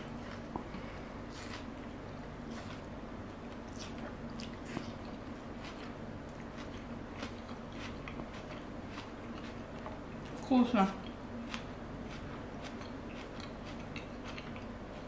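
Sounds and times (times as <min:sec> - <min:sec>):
person chewing: 0:00.0 - 0:10.4, 0:11.0 - 0:15.0
steady low hum: 0:00.0 - 0:15.0.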